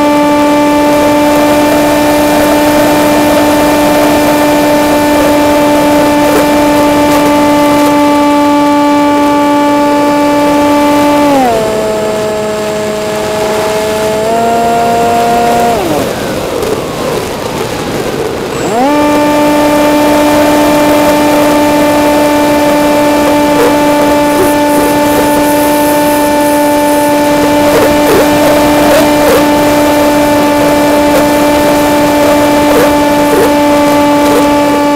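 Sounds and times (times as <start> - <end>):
electric motor propeller whining: 0.0 - 34.9.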